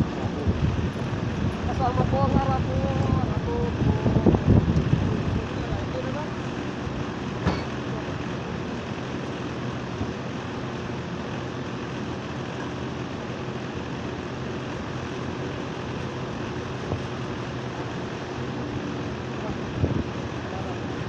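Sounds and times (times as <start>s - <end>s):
air conditioner unit humming: 0.0s - 21.0s
fan rushing: 0.0s - 21.0s.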